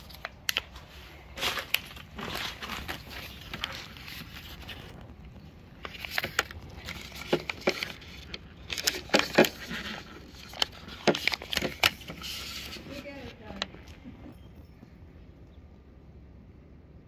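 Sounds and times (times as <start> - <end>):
sharp paper crackles: 0.0 - 13.9
paper packet rustling and crinkling: 0.0 - 14.1.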